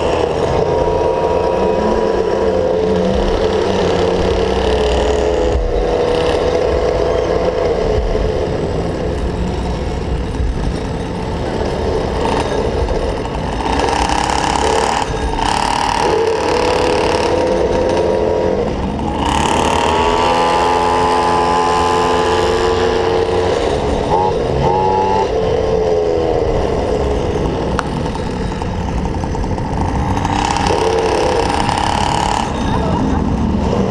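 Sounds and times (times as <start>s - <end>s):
small two-stroke engine buzzing: 0.0s - 33.9s.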